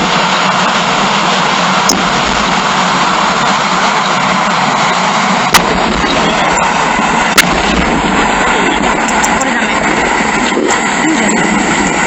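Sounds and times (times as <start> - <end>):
crowd and outdoor hiss: 0.0 - 12.0
firework reports: 0.0 - 12.0.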